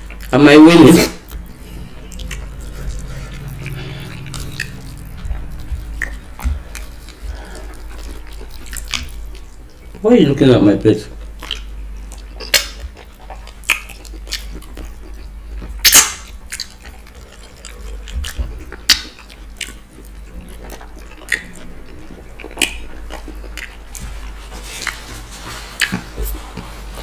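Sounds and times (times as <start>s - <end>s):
wet lip smacks and chewing: 1.2s - 10.0s, 11.2s - 26.7s.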